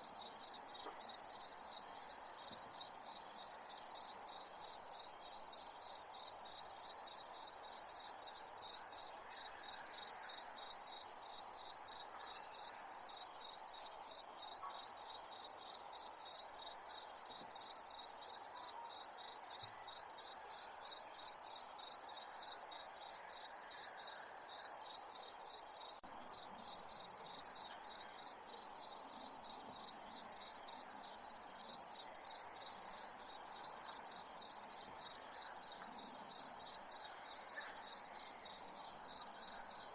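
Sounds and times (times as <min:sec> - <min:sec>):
crickets chirping: 0:00.1 - 0:39.9.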